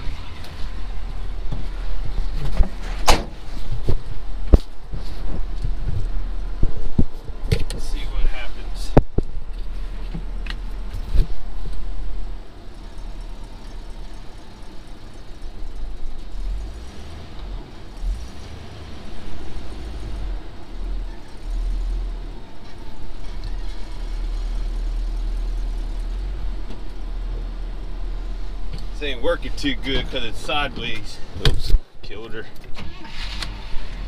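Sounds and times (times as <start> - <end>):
pickup truck engine rumbling: 0.0 - 34.0.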